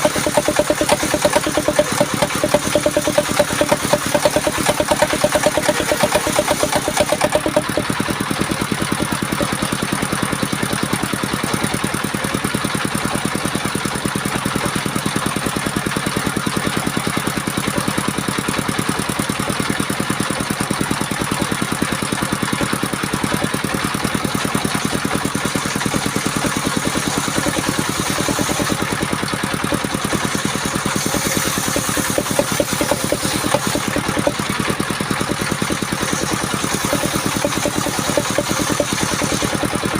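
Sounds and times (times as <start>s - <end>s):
circular saw engine running: 0.0s - 39.9s.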